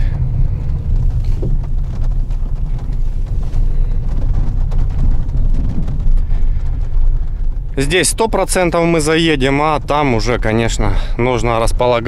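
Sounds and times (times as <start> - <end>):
tyres rumbling on gravel: 0.0 - 12.0.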